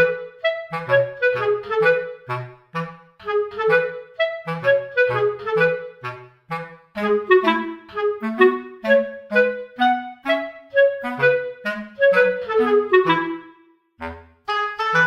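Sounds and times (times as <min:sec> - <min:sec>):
bouncy clarinet tune: 0:00.0 - 0:15.0.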